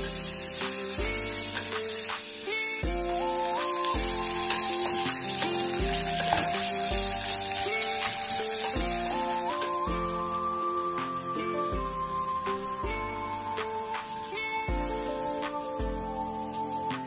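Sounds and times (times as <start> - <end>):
background music: 0.0 - 17.0
onions sizzling in oil: 0.0 - 17.0.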